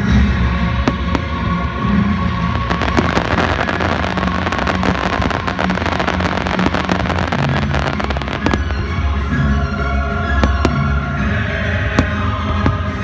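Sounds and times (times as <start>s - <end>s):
music with low bass: 0.0s - 13.0s
fireworks crackling and popping: 0.7s - 9.4s, 10.3s - 13.0s.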